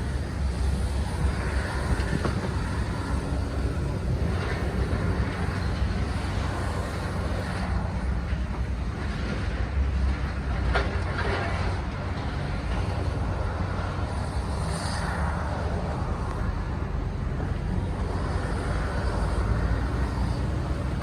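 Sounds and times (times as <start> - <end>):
diesel engine running: 0.0 - 14.6, 15.6 - 21.0.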